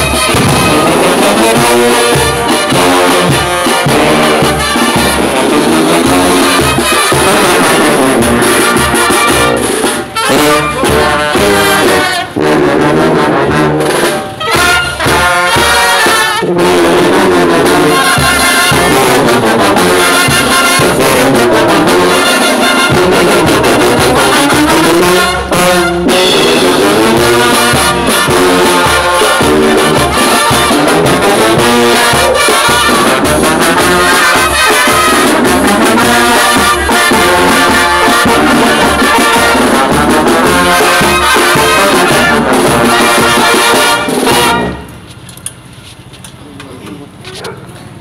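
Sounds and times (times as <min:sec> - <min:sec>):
snare and bass drum: 0:00.0 - 0:44.9
brass band playing: 0:00.0 - 0:45.2.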